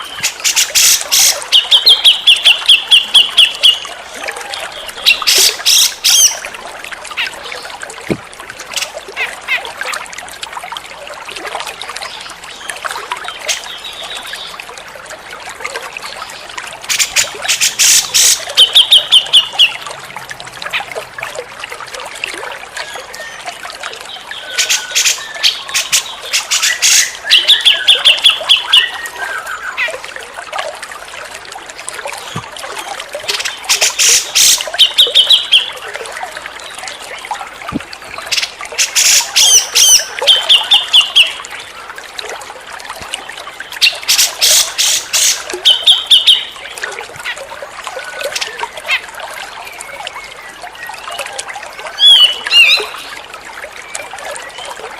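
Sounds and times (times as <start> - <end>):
trickling water: 0.0 - 54.9.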